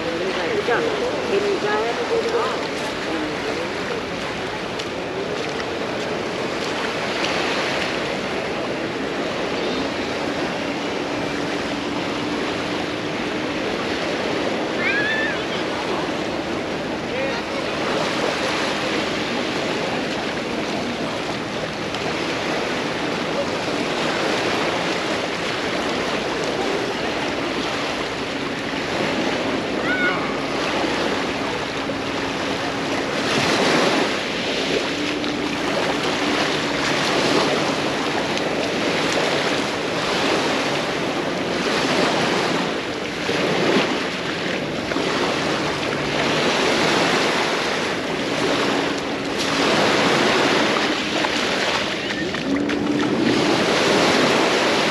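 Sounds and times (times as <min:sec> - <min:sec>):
small waves breaking on sand: 0:00.0 - 0:54.9.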